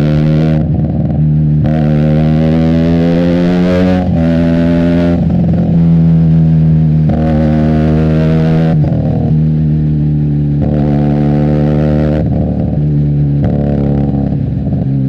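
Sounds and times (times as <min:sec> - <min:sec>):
motorcycle engine exhaust: 0:00.0 - 0:15.0.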